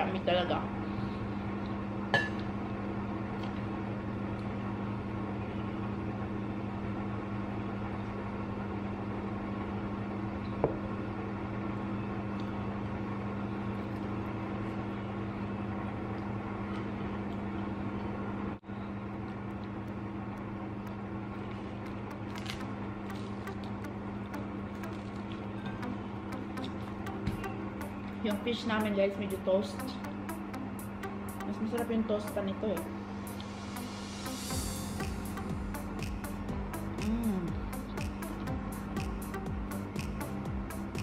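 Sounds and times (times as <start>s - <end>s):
appliance humming: 0.0s - 41.0s.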